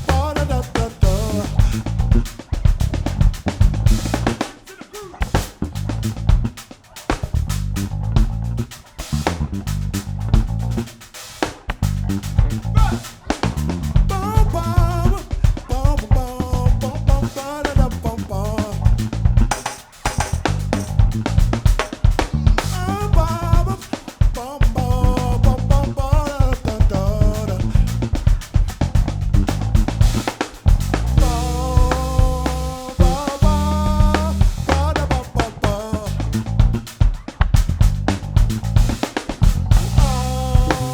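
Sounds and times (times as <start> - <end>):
band playing drums and bass: 0.0 - 40.9.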